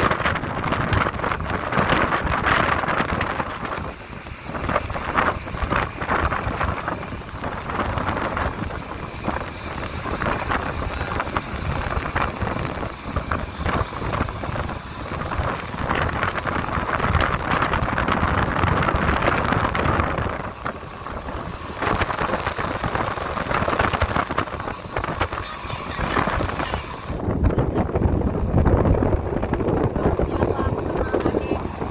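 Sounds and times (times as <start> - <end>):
sea water rushing along hull: 0.0 - 31.9
steady low rumble: 0.0 - 31.9
wind buffeting microphone: 0.0 - 31.9.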